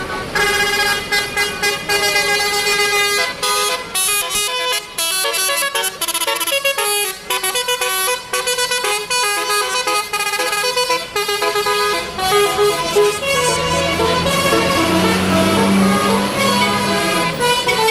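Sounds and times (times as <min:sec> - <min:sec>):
multi-tone bus horn tune: 0:00.0 - 0:17.9.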